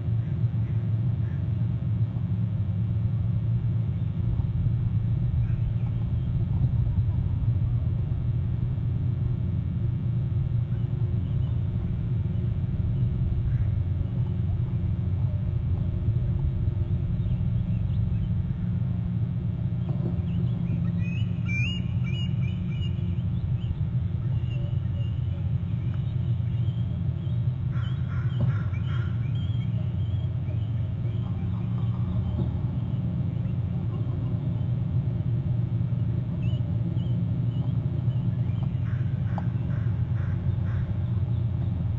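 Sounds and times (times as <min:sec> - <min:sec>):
low microphone rumble: 0:00.0 - 0:41.9.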